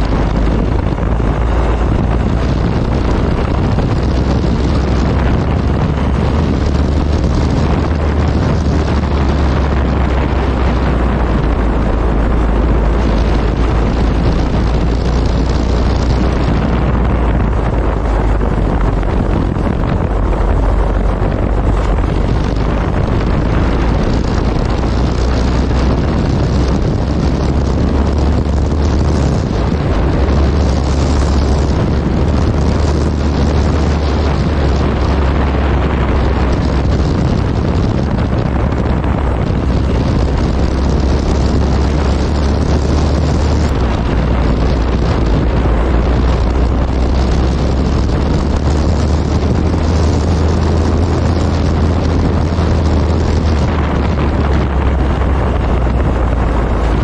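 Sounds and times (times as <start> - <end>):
motorcycle engine drone: 0.0 - 57.0
wind rushing on microphone: 0.0 - 57.0.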